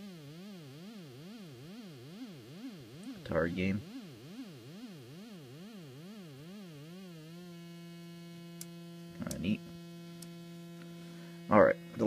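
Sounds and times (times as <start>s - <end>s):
synthesizer oscillator buzzing: 0.0s - 12.0s.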